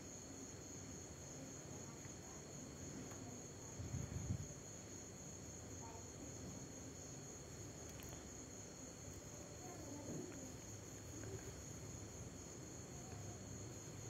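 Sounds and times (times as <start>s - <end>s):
crickets trilling: 0.1s - 14.0s.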